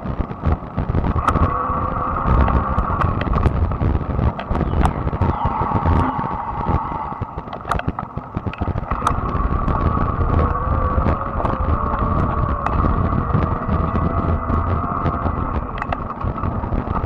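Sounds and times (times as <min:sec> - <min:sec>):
tyre rumble on asphalt: 0:00.0 - 0:17.0
wind buffeting microphone: 0:00.0 - 0:17.0
electric motor whine: 0:00.8 - 0:17.0.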